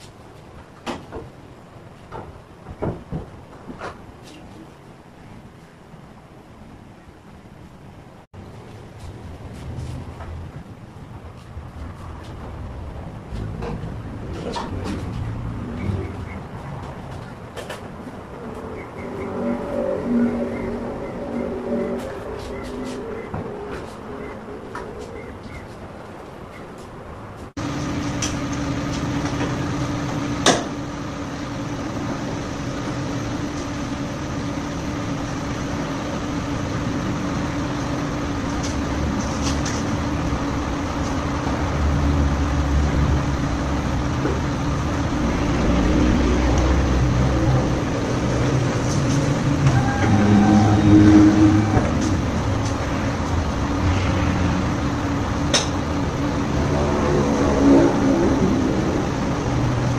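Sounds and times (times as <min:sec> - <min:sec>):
vehicle engine hum: 0:04.0 - 0:59.9.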